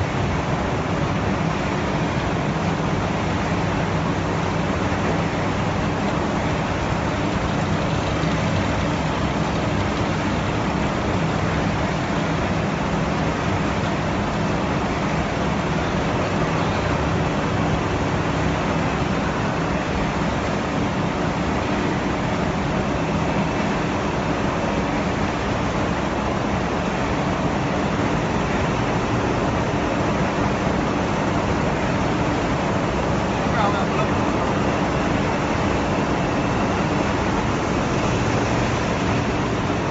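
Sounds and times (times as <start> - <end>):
fryer machine hum and hiss: 0.0 - 39.9.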